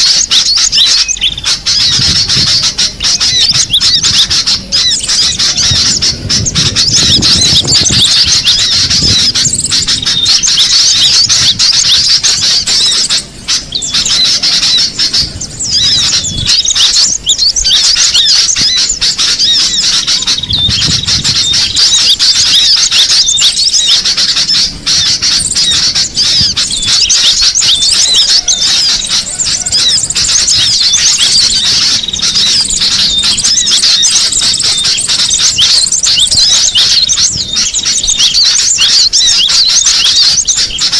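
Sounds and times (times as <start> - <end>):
birds chattering high-pitched: 0.0 - 40.9.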